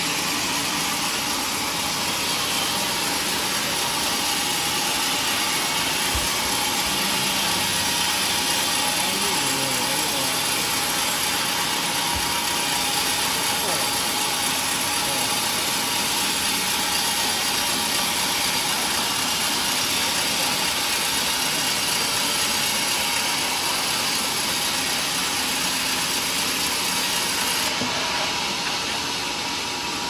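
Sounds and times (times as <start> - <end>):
band saw cutting log: 0.0 - 30.0.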